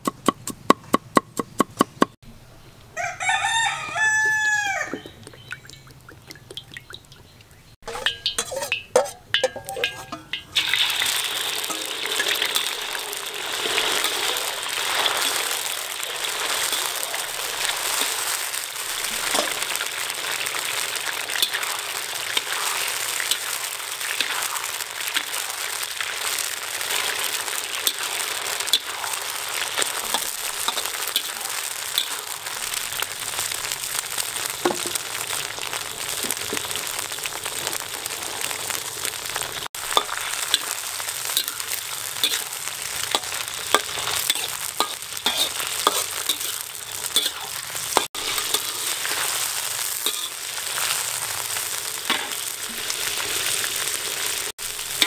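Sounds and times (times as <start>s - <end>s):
food sizzling in hot oil: 3.9s - 55.0s
oil crackling and popping: 5.2s - 55.0s.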